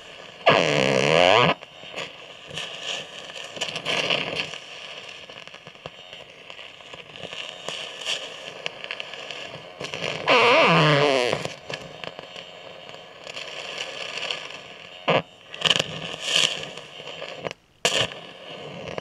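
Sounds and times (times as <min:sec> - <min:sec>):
carbon arc crackling and hissing: 0:00.0 - 0:19.0.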